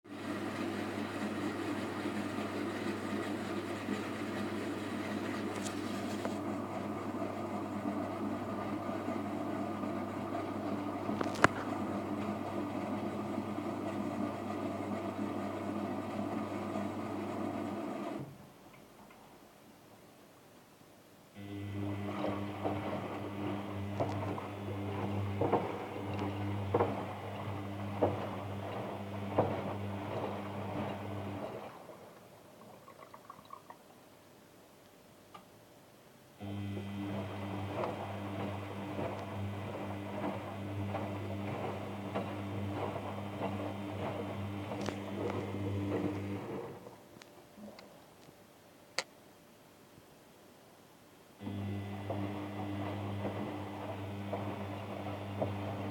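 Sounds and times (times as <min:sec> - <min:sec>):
washing machine humming: 0:00.0 - 0:18.5, 0:21.4 - 0:33.8, 0:36.4 - 0:47.2, 0:51.4 - 0:55.9.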